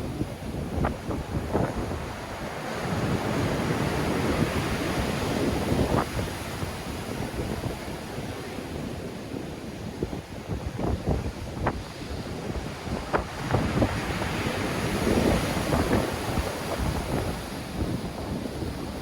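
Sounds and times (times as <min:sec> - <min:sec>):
waves breaking on shore: 0:00.0 - 0:19.0
wind buffeting microphone: 0:00.0 - 0:19.0.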